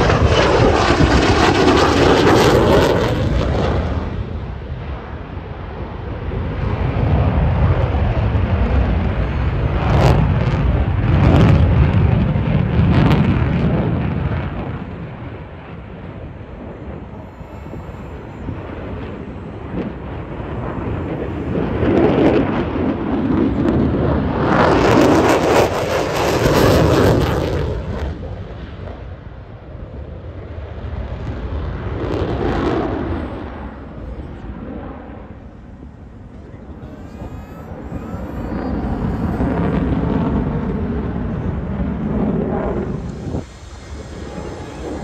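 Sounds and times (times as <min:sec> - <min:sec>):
jet fighter afterburner roar: 0:00.0 - 0:45.0.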